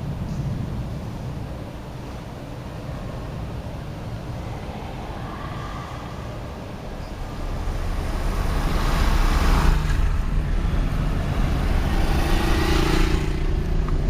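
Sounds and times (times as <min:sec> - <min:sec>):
rain hiss: 0:00.0 - 0:14.0
wind buffeting microphone: 0:00.0 - 0:14.0.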